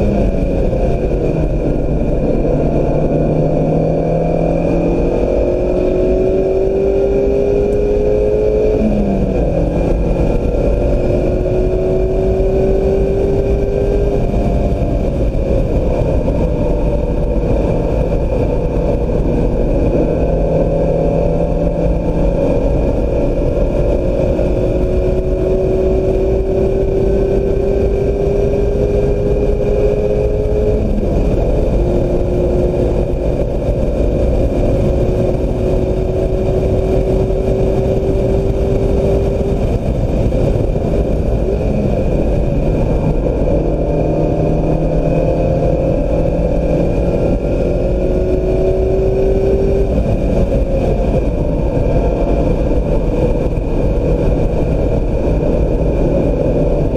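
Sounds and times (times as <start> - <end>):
car engine accelerating: 0.0 - 56.9
wind and tyre noise: 0.0 - 56.9.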